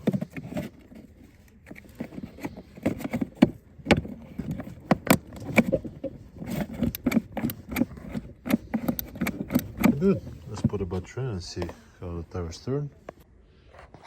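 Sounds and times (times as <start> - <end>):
hard plastic clicking and knocking: 0.0 - 11.7.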